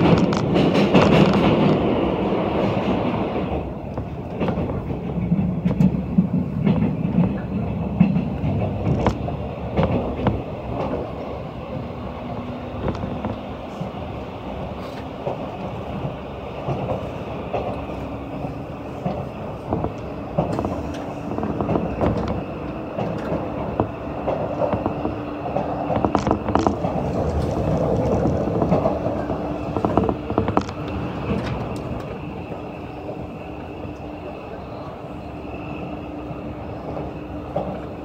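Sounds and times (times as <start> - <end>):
wheels clacking over rail joints: 0.0 - 34.3
steady train hum: 0.0 - 38.0
train wheels rumbling on rail: 0.0 - 38.0.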